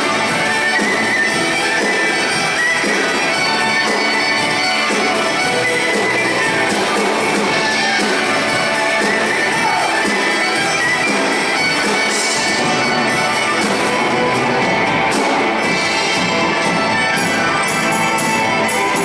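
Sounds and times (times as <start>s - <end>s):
live band playing instrumental: 0.0s - 19.0s.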